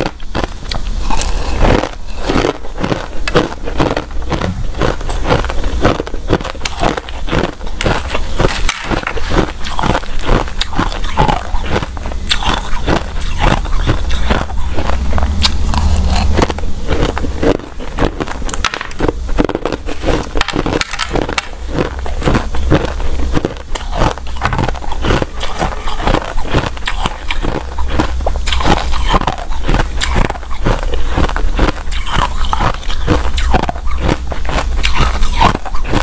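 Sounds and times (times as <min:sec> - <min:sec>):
ice being chewed and crunched: 0:00.0 - 0:36.0.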